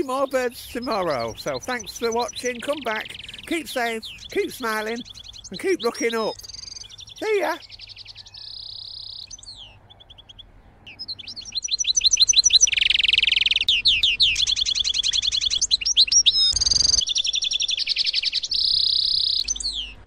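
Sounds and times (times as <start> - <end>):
goldfinch singing: 0.0 - 20.0.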